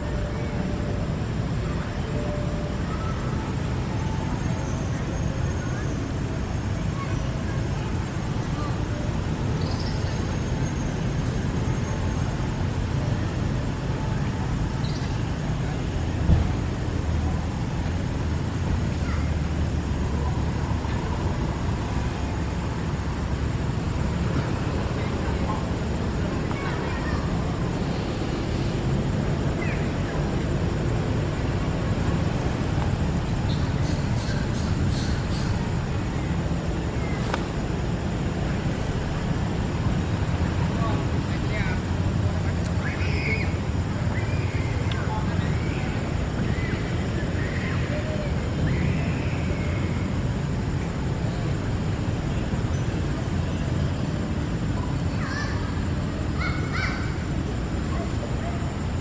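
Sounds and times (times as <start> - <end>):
outdoor background rumble: 0.0 - 59.0.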